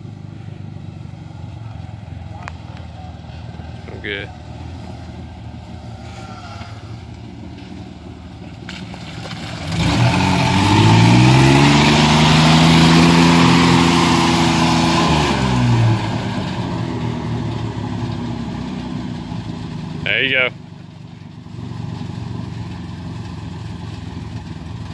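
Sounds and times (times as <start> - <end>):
pickup engine revving: 0.0 - 20.5
tyres churning through mud: 0.9 - 24.9.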